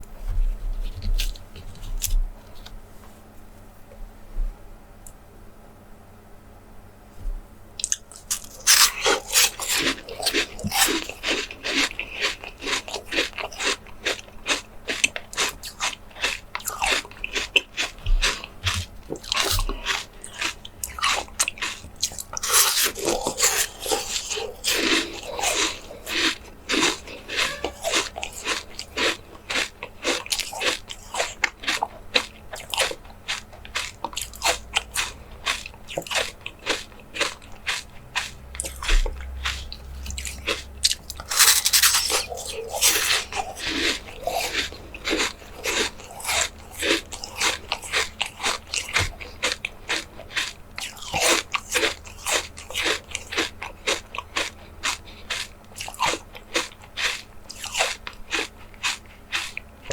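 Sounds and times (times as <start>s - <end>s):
chewing jelly with wet crackles: 7.8s - 59.9s.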